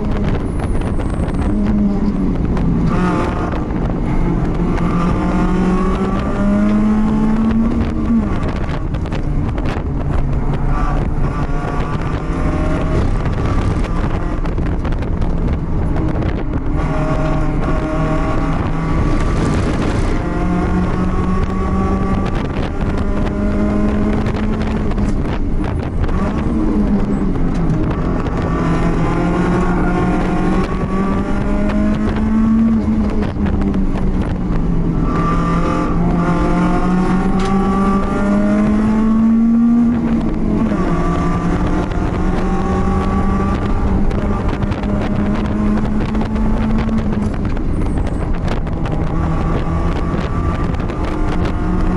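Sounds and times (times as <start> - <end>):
race car engine accelerating: 0.0 - 51.9
wind and road noise: 0.0 - 51.9.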